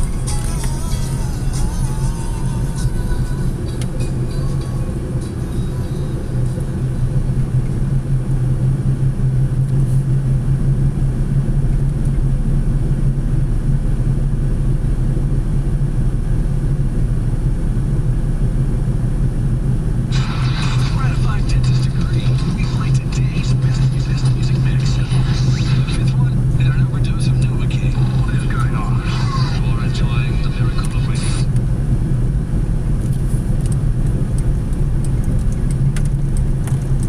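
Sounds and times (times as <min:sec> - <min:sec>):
car engine and tyre drone: 0:00.0 - 0:37.0.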